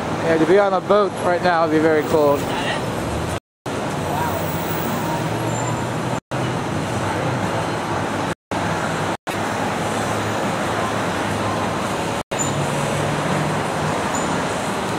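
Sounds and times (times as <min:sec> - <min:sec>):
city street traffic: 0:00.0 - 0:14.9.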